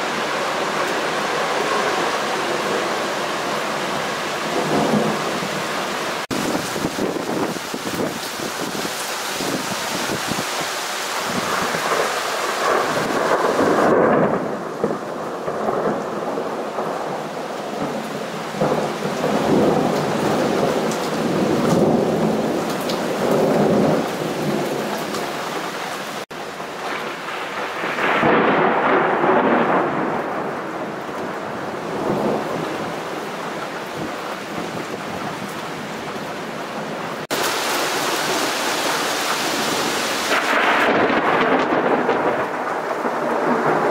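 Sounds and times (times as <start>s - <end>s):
rolling thunder rumbling: 0.0s - 25.4s, 26.7s - 35.5s, 37.3s - 43.9s
rain hissing: 0.0s - 43.9s.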